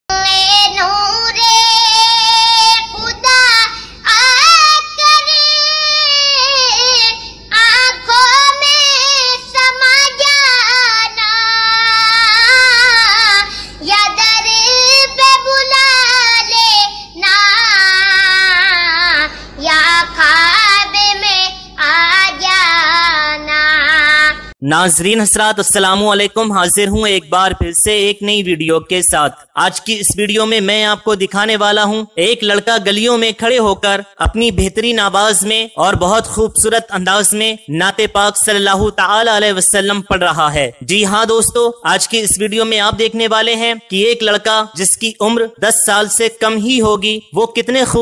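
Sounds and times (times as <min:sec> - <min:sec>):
boy singing devotional song: 0:00.1 - 0:48.0.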